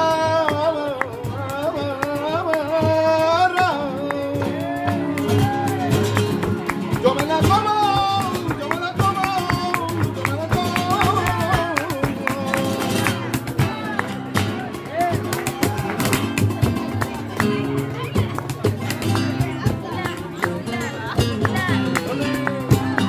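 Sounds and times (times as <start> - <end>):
flamenco guitars strumming: 0.0 - 23.0
man singing flamenco: 0.0 - 23.0.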